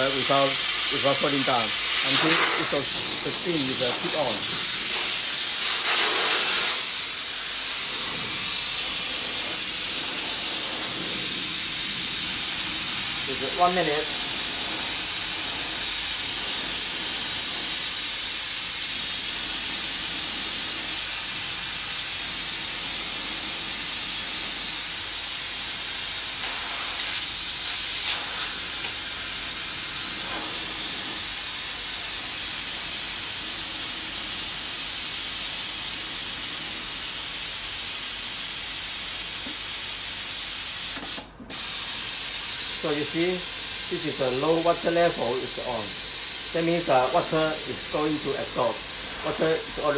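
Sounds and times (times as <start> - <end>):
steam jet hissing: 0.0 - 49.9.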